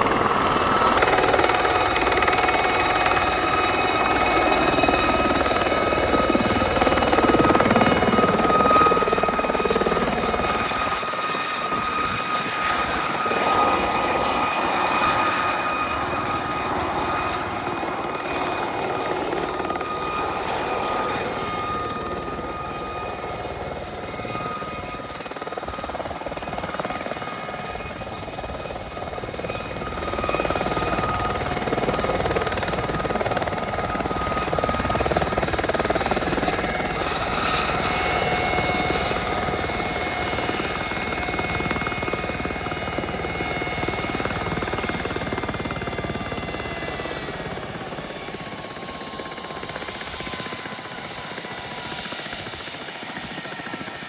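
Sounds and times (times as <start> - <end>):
helicopter flying past: 0.0 - 54.0
turbine whine: 0.0 - 54.0.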